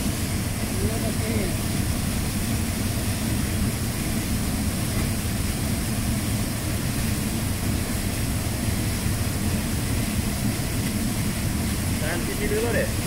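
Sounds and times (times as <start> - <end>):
river water rushing into pool: 0.0 - 13.0.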